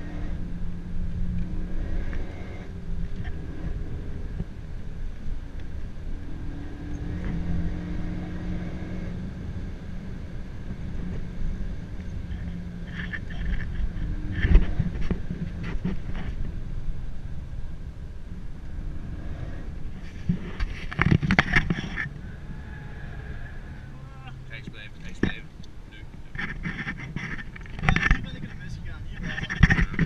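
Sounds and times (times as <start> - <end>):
car engine from inside cabin: 0.0 - 30.0
road and tyre rumble: 0.0 - 30.0.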